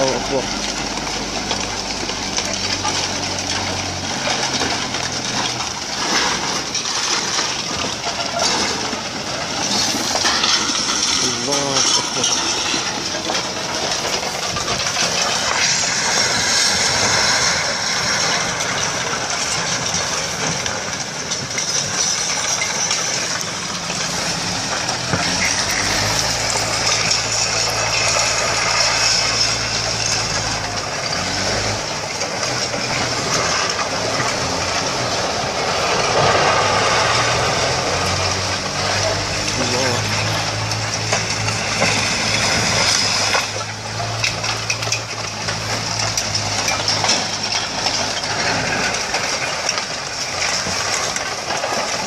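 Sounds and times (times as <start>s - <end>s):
landslide debris rumbling: 0.0s - 52.0s.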